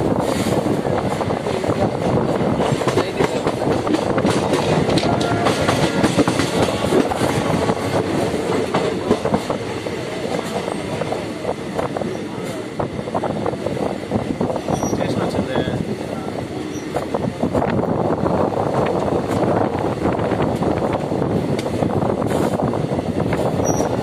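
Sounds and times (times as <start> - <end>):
clicking and rattling over track: 0.0 - 24.0
train wheels rumbling on rails: 0.0 - 24.0.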